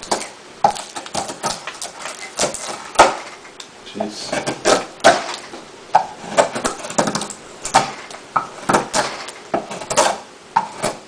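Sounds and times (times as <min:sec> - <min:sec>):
knife whittling wood: 0:00.0 - 0:11.0.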